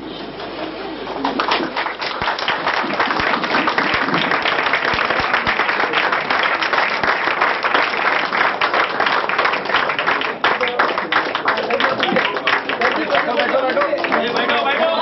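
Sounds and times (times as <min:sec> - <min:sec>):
audience applauding: 0:00.3 - 0:15.0.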